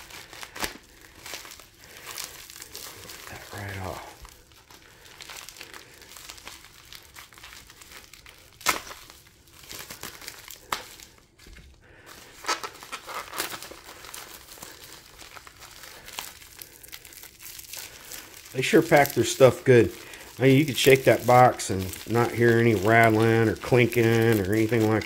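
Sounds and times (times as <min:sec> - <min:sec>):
wrapping crinkling and tearing: 0:00.0 - 0:25.0.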